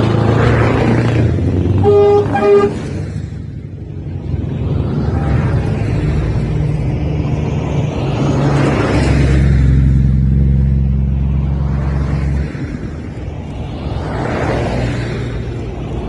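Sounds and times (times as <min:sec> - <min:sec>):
vehicle engines passing by: 0:00.0 - 0:16.0.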